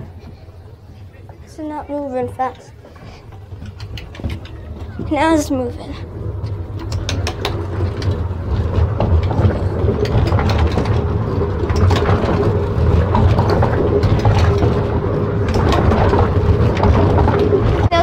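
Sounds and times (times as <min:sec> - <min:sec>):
footsteps: 0:00.0 - 0:18.0
hamster wheel rolling rumble: 0:00.0 - 0:18.0
clatter and knocks from wheel: 0:02.2 - 0:18.0.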